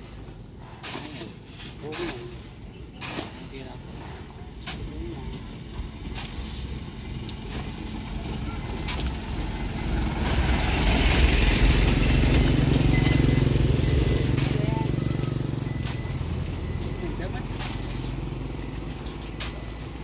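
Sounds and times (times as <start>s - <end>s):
diesel truck engine running: 0.0s - 20.0s
hoe scraping through fertilizer: 0.0s - 20.0s.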